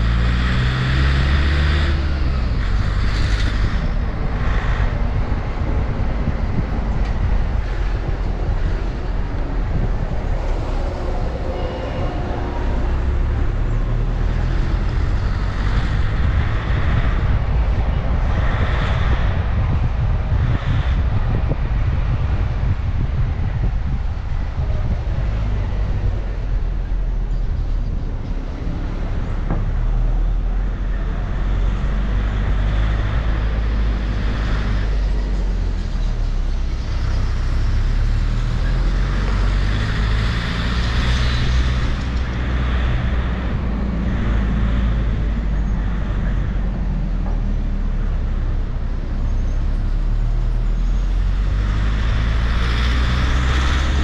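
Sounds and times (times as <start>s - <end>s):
vehicle rumble with hiss: 0.0s - 54.0s.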